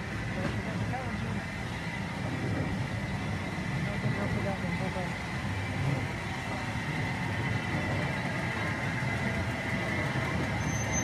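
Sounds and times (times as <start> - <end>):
locomotive low rumble: 0.0 - 11.0.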